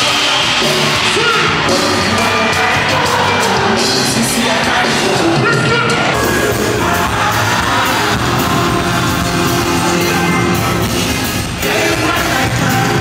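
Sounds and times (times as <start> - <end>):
crowd yelling: 0.0 - 13.0
live concert music: 0.0 - 13.0
person singing: 0.0 - 13.0.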